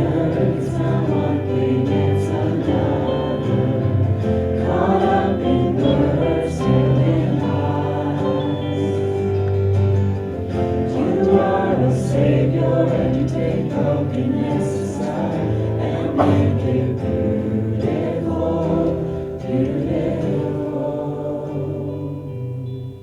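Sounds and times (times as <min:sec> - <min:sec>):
instrumental accompaniment: 0:00.0 - 0:21.3
group singing worship song: 0:00.0 - 0:23.0.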